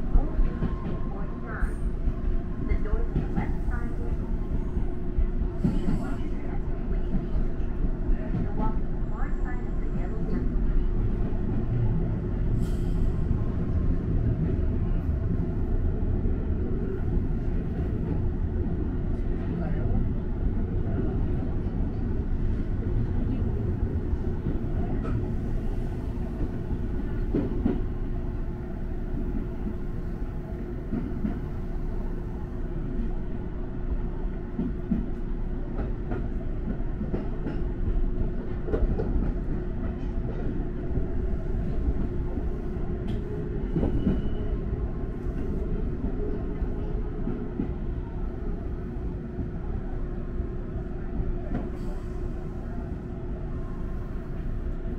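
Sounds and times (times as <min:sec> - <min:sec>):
wheels rumbling on rail: 0:00.0 - 0:54.9.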